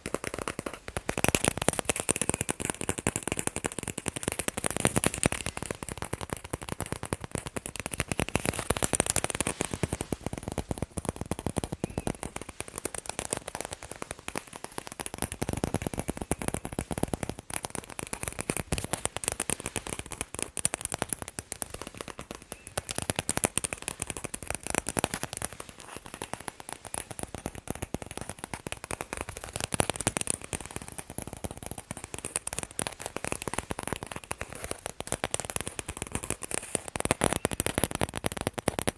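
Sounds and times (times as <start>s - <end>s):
fast tapping on balls: 0.0s - 38.9s.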